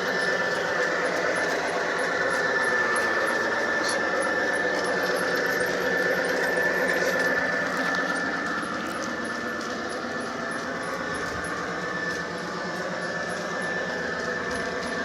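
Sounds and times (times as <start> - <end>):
model train motor whining: 0.0 - 15.0.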